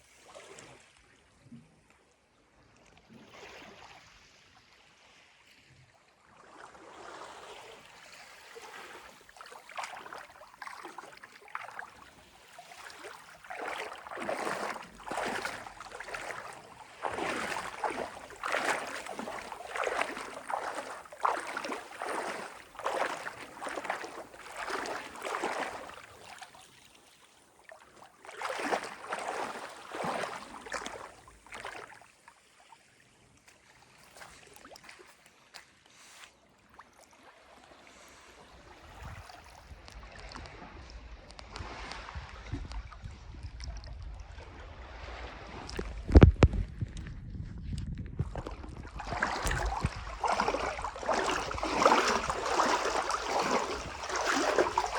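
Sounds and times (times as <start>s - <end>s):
sea water lapping and splashing: 0.0s - 1.5s, 2.6s - 54.9s.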